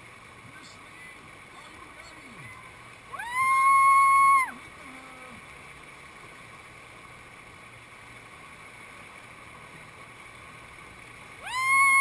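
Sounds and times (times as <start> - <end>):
whitewater rushing over rocks: 0.0 - 12.0.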